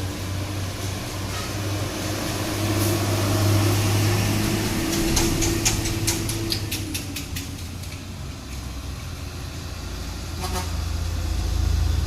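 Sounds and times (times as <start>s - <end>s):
diesel truck engine pulling uphill: 0.0s - 12.0s.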